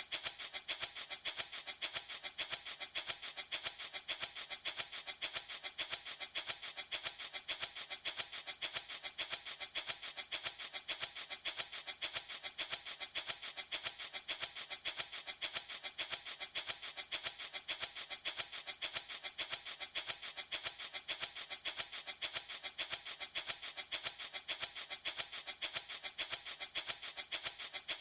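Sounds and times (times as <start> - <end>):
baby rattle shaken: 0.0 - 28.0.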